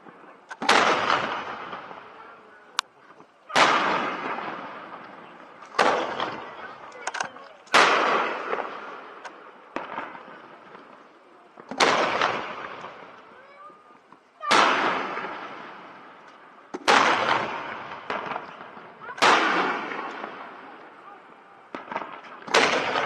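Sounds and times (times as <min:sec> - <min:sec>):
firework shells booming: 0:00.0 - 0:02.9, 0:03.5 - 0:23.0
small firework pops: 0:02.7 - 0:21.0, 0:21.7 - 0:23.0.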